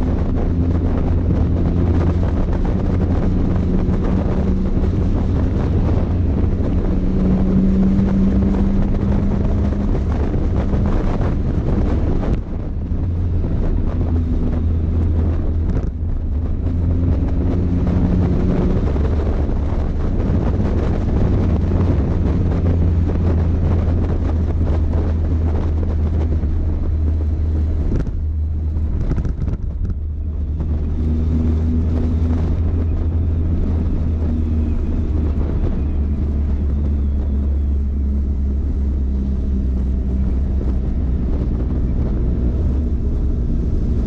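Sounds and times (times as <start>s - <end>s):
motorcycle engine running: 0.0s - 44.0s
wind noise on microphone: 0.0s - 44.0s.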